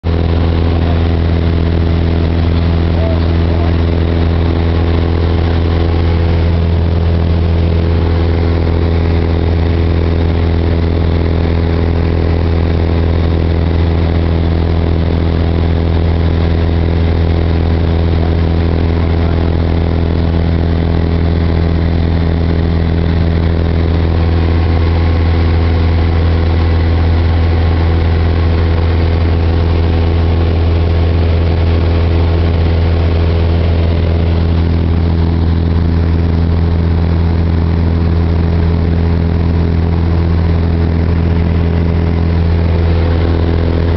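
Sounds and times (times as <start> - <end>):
propeller plane engine: 0.0 - 43.9.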